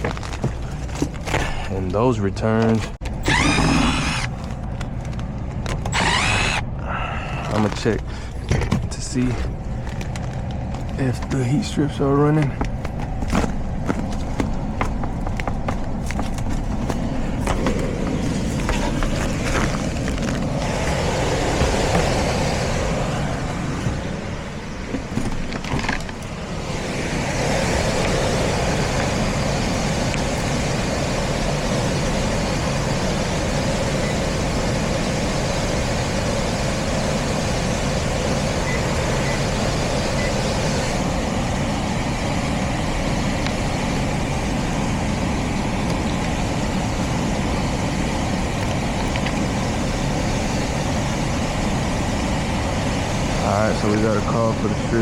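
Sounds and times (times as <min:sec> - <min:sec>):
heat pump humming: 0:00.0 - 0:55.0.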